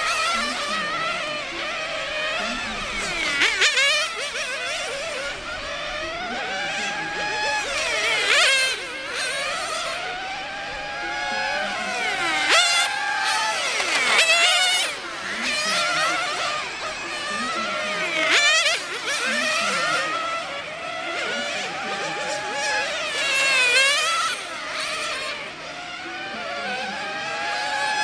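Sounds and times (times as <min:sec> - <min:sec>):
rc car engines revving: 0:00.0 - 0:28.0.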